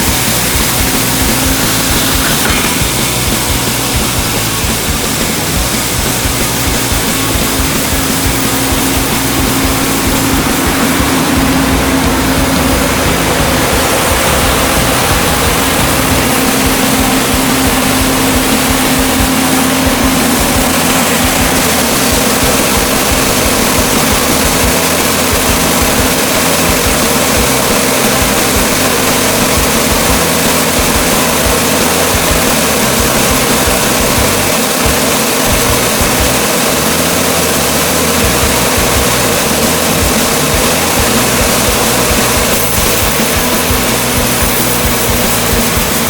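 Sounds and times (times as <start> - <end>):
band sawmill running: 0.0 - 46.0
steady hum: 0.0 - 46.0.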